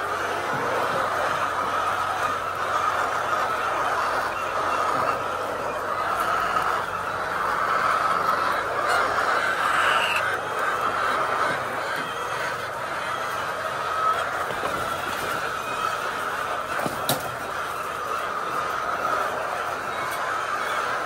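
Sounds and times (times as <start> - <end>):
flock of chickens clucking: 0.0 - 21.0.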